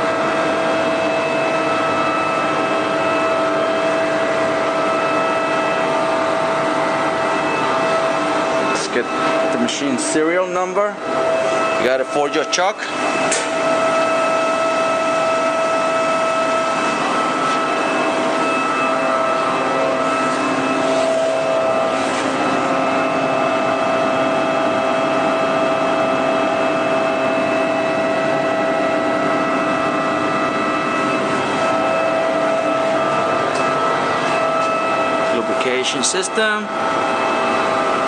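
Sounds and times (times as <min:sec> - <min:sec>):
lathe mechanical whine: 0:00.0 - 0:38.0.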